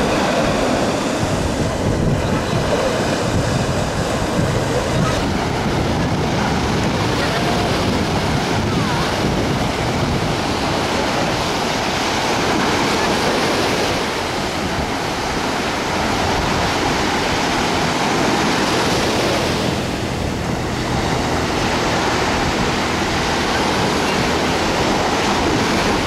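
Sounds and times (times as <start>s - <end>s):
surf breaking on shore: 0.0s - 26.0s
wind buffeting microphone: 0.0s - 26.0s.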